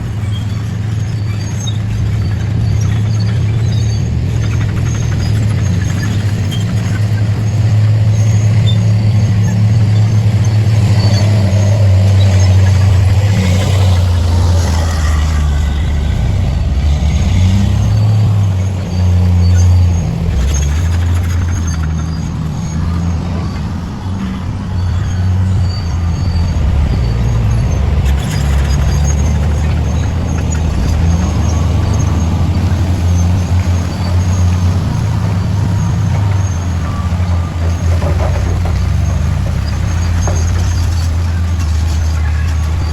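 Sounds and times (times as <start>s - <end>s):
faint high squeals: 0.0s - 42.9s
heavy diesel engine running: 0.0s - 42.9s.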